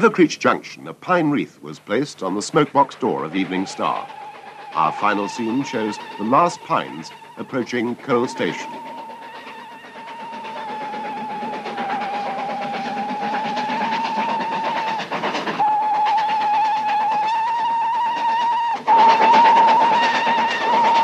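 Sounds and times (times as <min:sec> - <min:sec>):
train rumbling: 0:00.0 - 0:21.0
steam locomotive whistle: 0:02.2 - 0:21.0.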